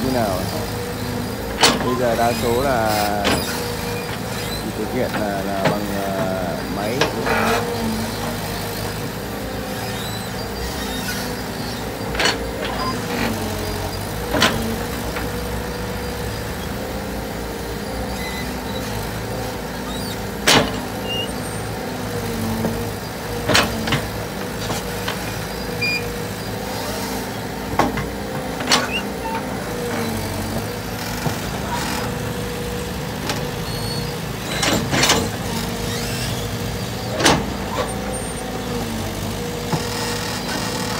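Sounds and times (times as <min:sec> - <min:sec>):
excavator diesel engine and hydraulics: 0:00.0 - 0:40.9.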